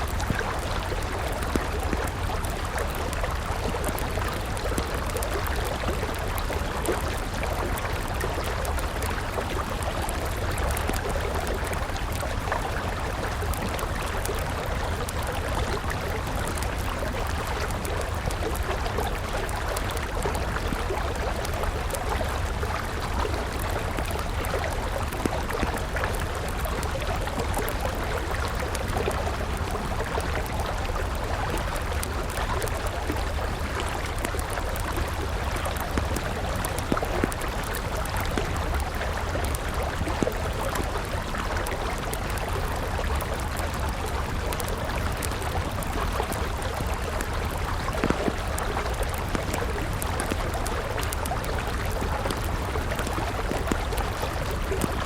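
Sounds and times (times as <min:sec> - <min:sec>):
campfire crackling: 0:00.0 - 0:55.0
river water flowing: 0:00.0 - 0:55.0.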